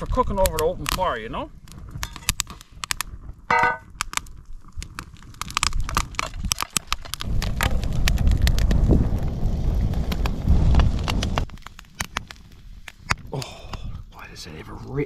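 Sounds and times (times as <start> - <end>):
wind on microphone: 0.0 - 14.2.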